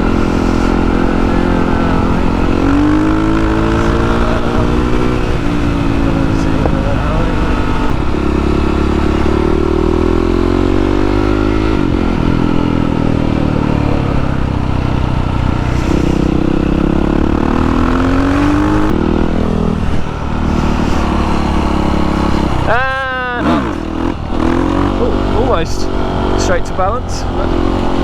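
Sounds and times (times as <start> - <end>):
dirt bike engine accelerating: 0.0 - 28.0.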